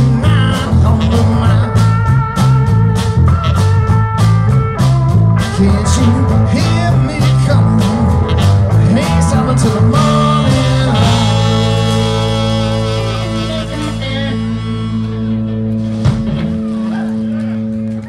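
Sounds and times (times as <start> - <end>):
blues band playing: 0.0 - 18.0
drums: 0.0 - 18.0.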